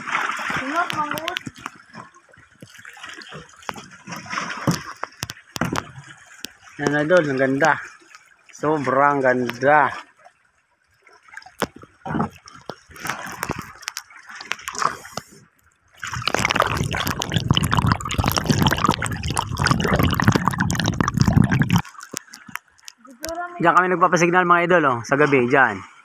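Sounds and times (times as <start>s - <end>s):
underwater rushing and bubbling: 0.0s - 23.7s
water lapping and splashing: 0.0s - 23.9s.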